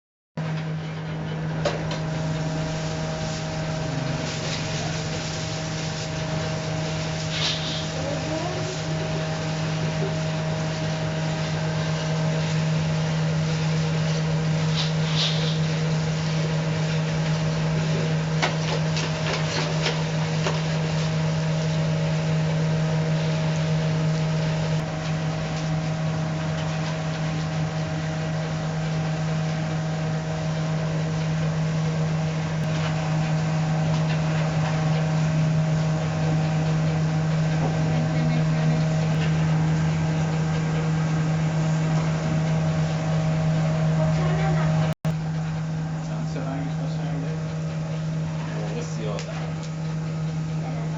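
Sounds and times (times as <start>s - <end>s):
electric motor humming: 1.8s - 50.9s.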